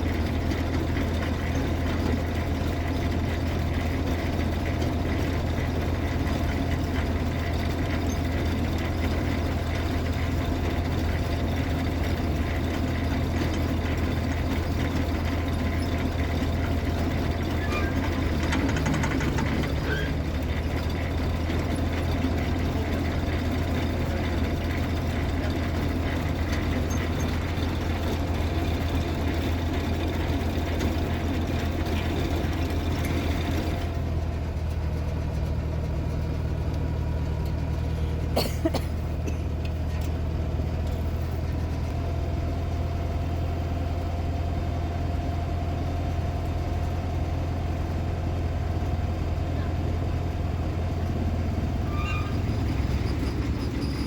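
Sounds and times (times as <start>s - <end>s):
engine idling low hum: 0.0s - 54.0s.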